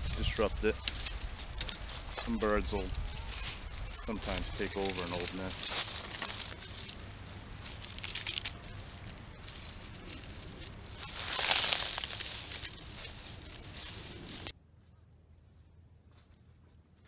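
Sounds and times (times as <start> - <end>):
dry grass rustling and crackling: 0.0 - 14.6.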